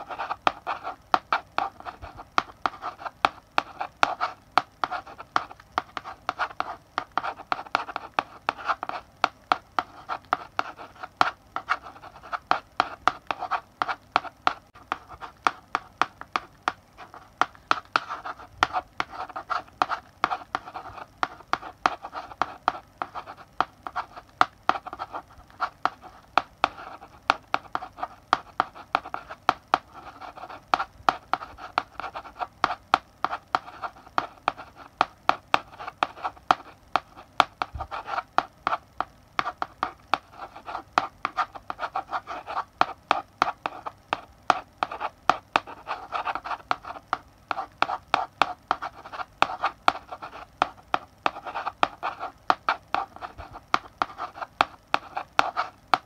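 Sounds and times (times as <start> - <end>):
chalk scratching on blackboard: 0.0 - 38.8, 39.4 - 56.0
chalk tapping on board: 0.0 - 56.0.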